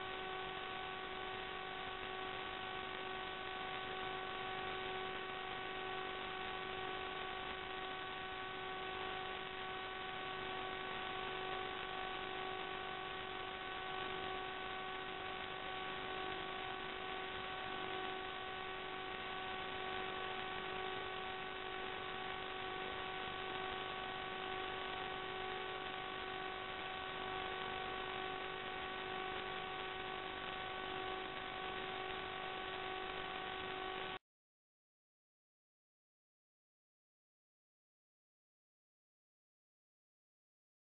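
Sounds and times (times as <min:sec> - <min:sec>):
electronic hiss: 0:00.0 - 0:34.2.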